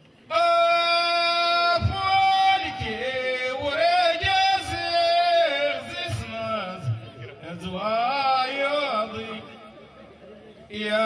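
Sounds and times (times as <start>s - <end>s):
man chanting into a microphone: 0.3s - 9.9s, 10.7s - 11.0s.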